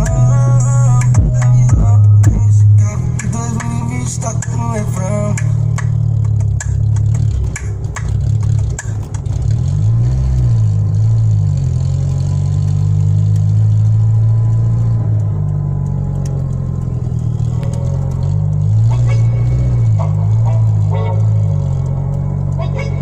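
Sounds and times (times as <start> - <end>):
car engine running while driving: 0.0 - 23.0.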